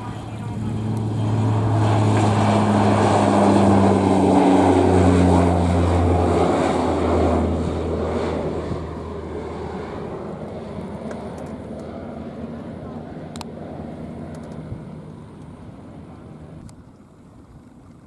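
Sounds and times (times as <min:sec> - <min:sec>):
propeller aircraft droning past: 0:00.0 - 0:17.8.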